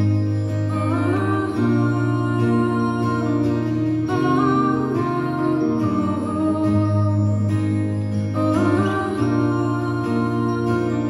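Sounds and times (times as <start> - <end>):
folk melody line: 0.0 - 11.0.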